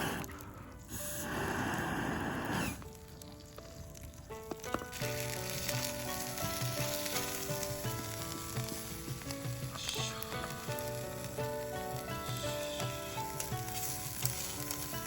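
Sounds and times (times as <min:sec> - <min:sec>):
background music: 0:00.0 - 0:15.0
food sizzling as it fries: 0:01.9 - 0:15.0.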